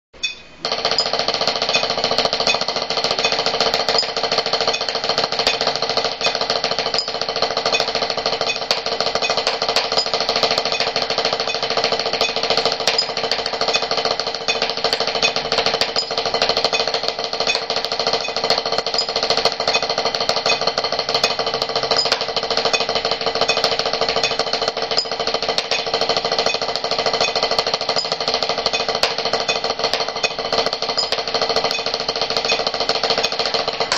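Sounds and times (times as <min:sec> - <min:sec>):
drumsticks tapping practice pad: 0:00.2 - 0:33.9.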